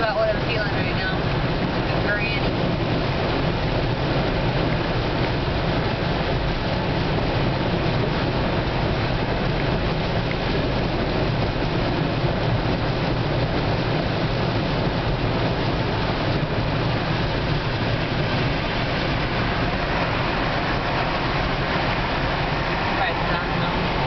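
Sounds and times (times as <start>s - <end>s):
tyre and rain hiss: 0.0s - 24.0s.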